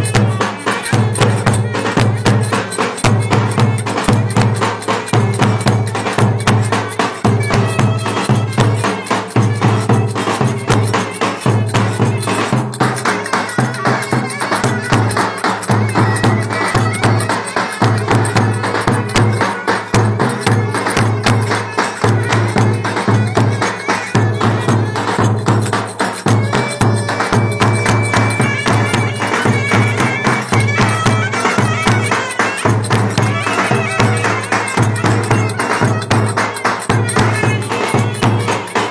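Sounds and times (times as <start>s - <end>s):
clarinets playing reedy melody: 0.0s - 38.9s
drums and tambourine percussion: 0.0s - 38.9s.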